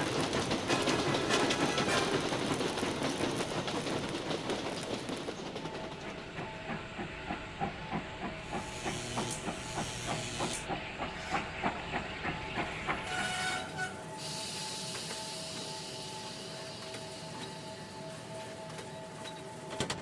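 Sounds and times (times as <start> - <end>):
steam hissing: 0.0 - 18.2
steam locomotive chugging: 0.0 - 20.0.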